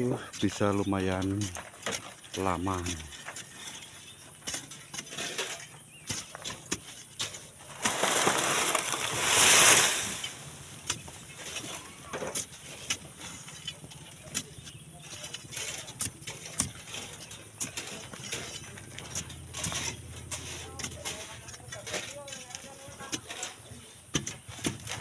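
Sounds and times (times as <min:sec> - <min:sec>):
hand tools knocking on sand and stone: 0:00.0 - 0:25.0.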